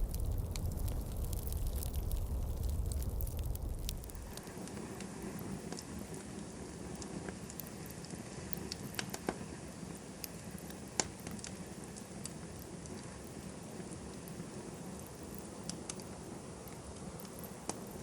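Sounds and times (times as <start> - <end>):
campfire crackling and popping: 0.0 - 18.0
low steady hiss: 0.0 - 18.0.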